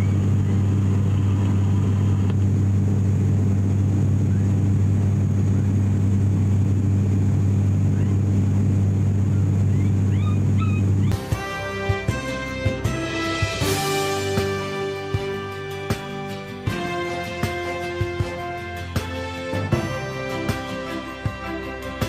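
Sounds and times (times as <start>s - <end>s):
turboprop cabin drone: 0.0s - 22.0s.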